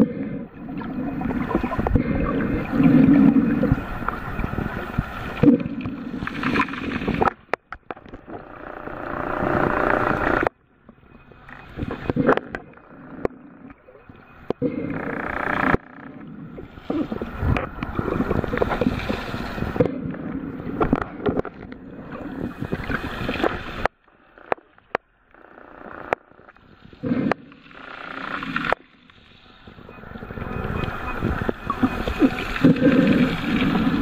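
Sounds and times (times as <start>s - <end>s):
muffled underwater sloshing: 0.0s - 24.9s, 26.5s - 34.0s.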